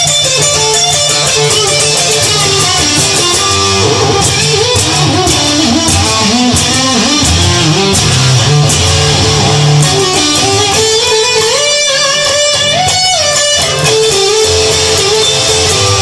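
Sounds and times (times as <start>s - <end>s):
electric guitar lead melody: 0.0s - 16.0s
instrumental backing music: 0.0s - 16.0s.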